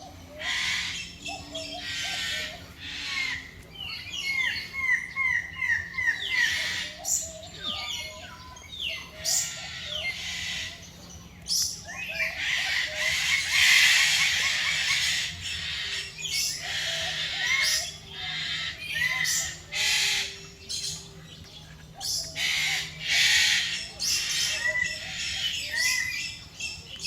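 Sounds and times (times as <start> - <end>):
birds squawking: 0.0 - 27.0.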